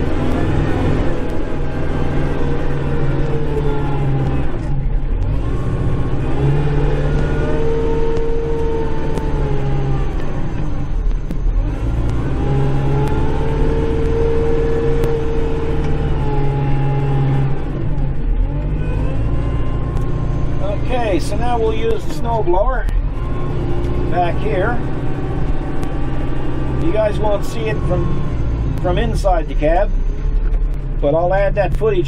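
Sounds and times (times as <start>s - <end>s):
tractor diesel engine revving: 0.0s - 32.0s.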